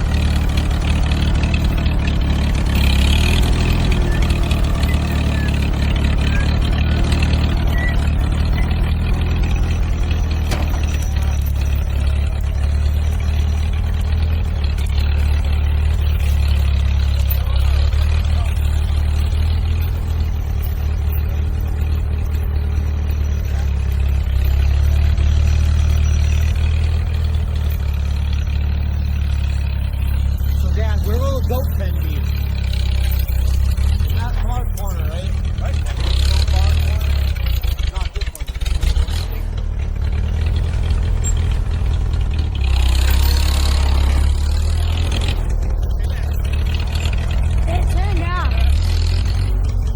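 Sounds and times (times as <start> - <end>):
tractor engine rumbling: 0.0 - 49.9.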